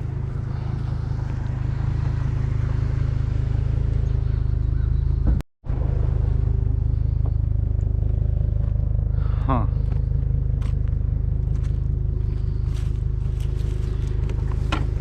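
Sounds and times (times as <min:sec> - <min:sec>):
pickup truck engine rumbling: 0:00.0 - 0:15.0.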